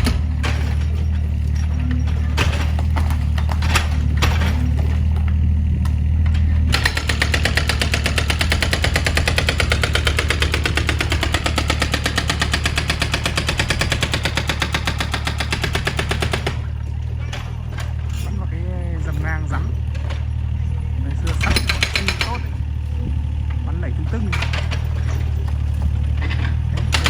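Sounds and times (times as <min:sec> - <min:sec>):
excavator diesel engine: 0:00.0 - 0:27.0
hydraulic breaker hammer pounding: 0:00.0 - 0:27.0.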